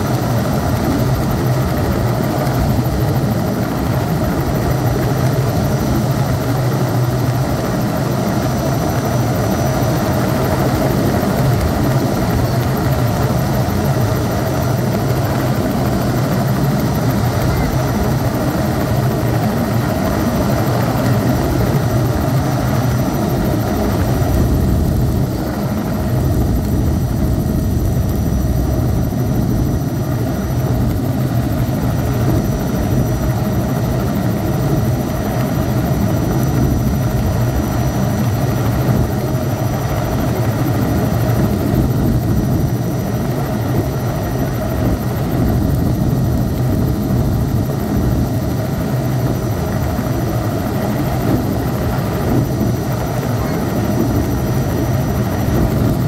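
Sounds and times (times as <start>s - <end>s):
faint high whine: 0.0s - 56.0s
helicopter rotor and engine noise: 0.0s - 56.0s.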